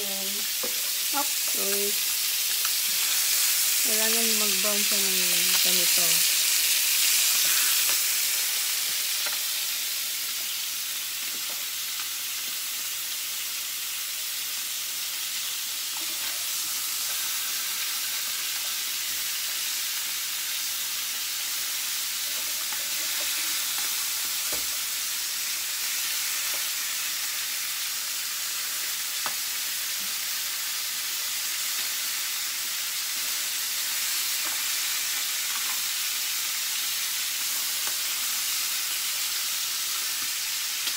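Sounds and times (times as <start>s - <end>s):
chicken sizzling in a skillet: 0.0s - 40.9s.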